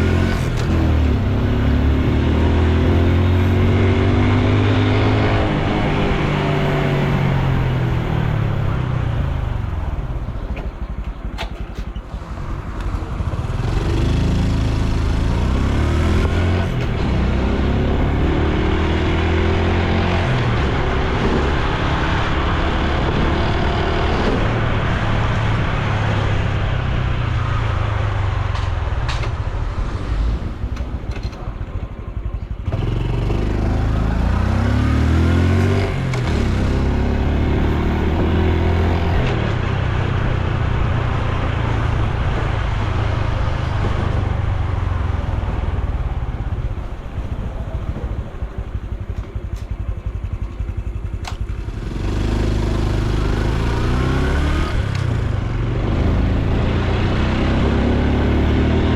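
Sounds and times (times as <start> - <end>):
motorcycle engine accelerating: 0.0 - 58.9
road and wind noise: 0.0 - 58.9.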